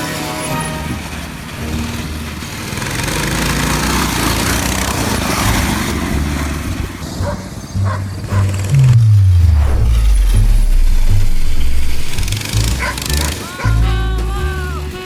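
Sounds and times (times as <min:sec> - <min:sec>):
mini bike engines revving: 0:00.0 - 0:08.9, 0:11.7 - 0:15.0.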